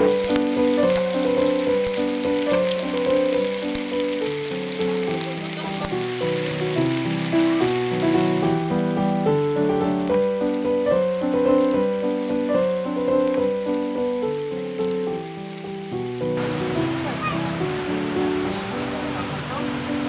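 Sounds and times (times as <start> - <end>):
background music: 0.0 - 19.9
meat sizzling in metal tray: 0.0 - 20.0.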